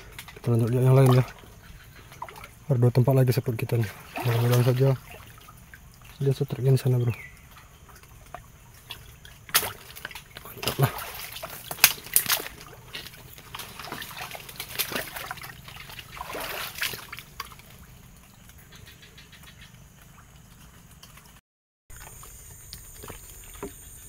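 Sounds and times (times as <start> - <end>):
faint steady water sound: 0.0 - 24.0
footsteps wading through water: 0.0 - 24.0.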